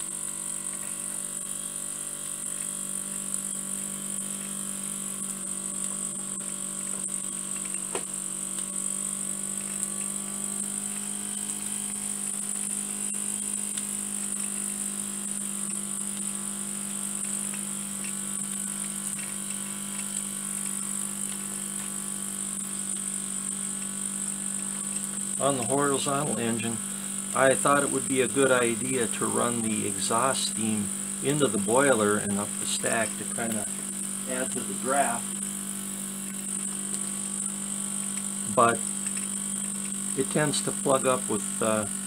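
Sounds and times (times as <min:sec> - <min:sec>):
model steam engine buzzing: 0:00.0 - 0:42.0.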